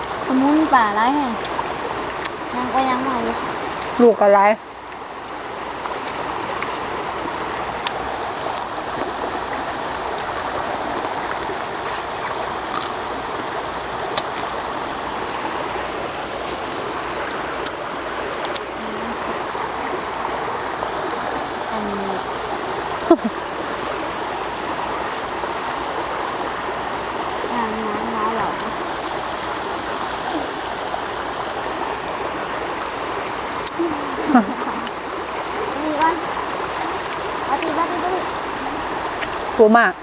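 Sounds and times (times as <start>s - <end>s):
stream water rushing: 0.0s - 40.0s.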